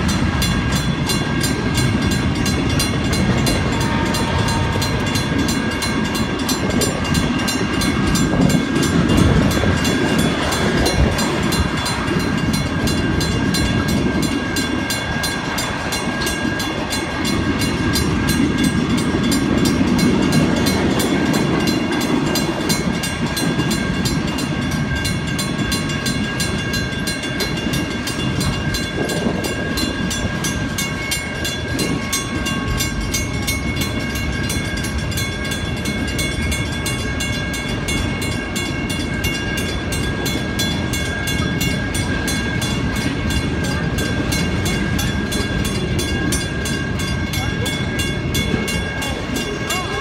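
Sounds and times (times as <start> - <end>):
crossing warning bell ringing: 0.0 - 50.0
train wheels rumbling on rails: 0.0 - 50.0.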